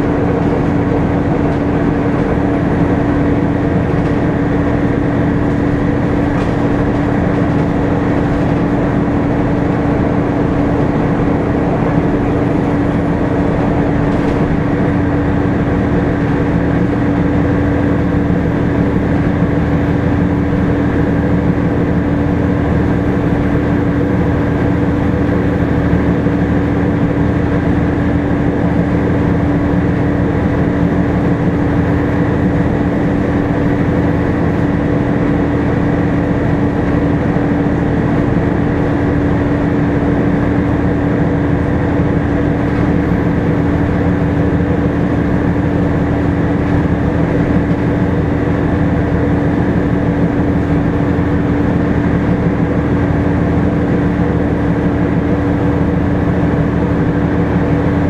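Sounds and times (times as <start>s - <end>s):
bus engine and road rumble: 0.0s - 58.0s
cooling fan whine: 0.0s - 58.0s.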